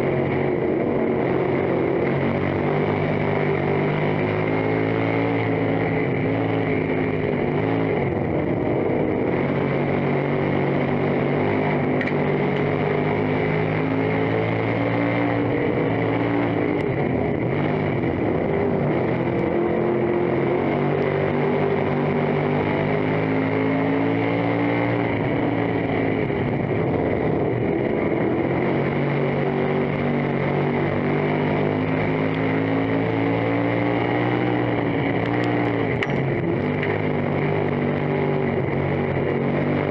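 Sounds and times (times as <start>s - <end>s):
race car engine under load: 0.0s - 39.9s.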